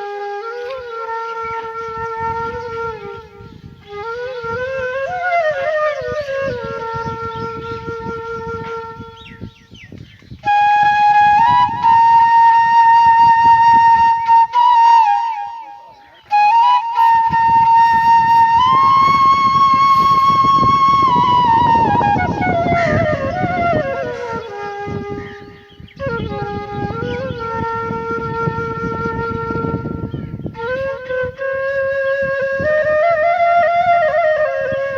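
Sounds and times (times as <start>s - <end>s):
flute melody: 0.0s - 34.9s.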